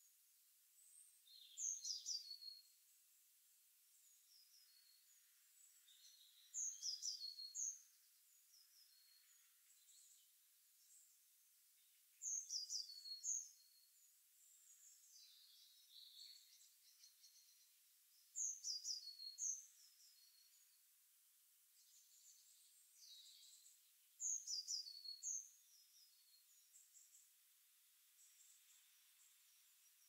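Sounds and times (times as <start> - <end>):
faint bird chirping: 0.0 - 30.0.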